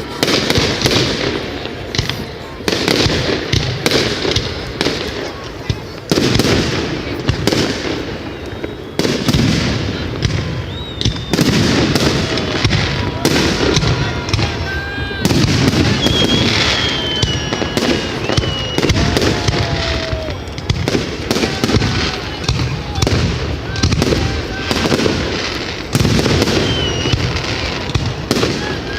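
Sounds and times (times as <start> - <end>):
fireworks bangs and crackling: 0.0 - 28.9
high whistling fireworks: 0.0 - 28.9.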